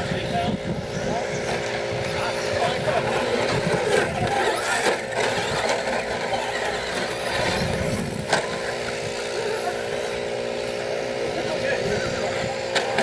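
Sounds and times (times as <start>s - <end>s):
rc trucks racing on dirt: 0.0s - 13.0s.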